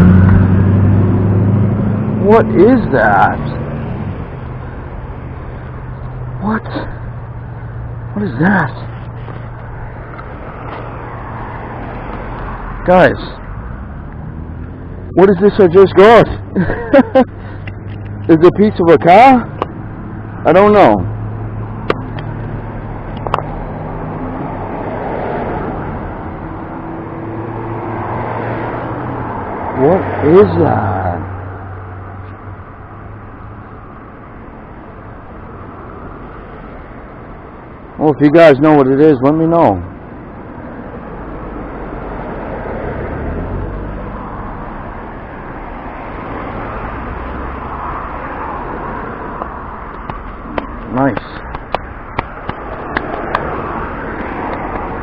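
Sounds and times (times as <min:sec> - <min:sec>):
traffic rumble on bridge: 0:00.0 - 0:55.0
vehicle passing: 0:00.0 - 0:55.0.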